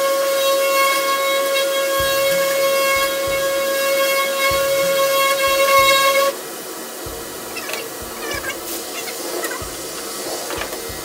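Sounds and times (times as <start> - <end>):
hiss of sanding: 0.0 - 11.0
orbital sander whining: 0.6 - 11.0.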